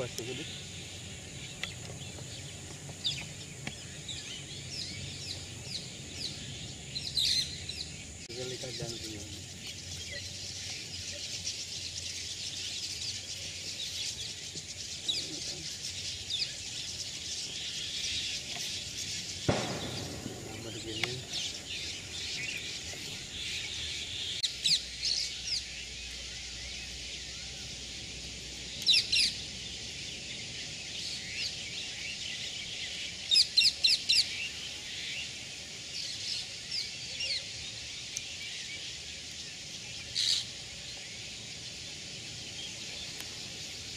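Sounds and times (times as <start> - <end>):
flock of birds chattering: 0.0 - 43.9
sharp bird chirps: 0.0 - 43.9.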